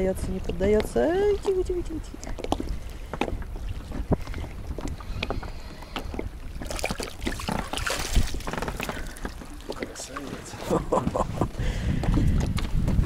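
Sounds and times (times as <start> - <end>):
water lapping against boat: 0.0 - 13.0
wind buffeting microphone: 0.0 - 13.0.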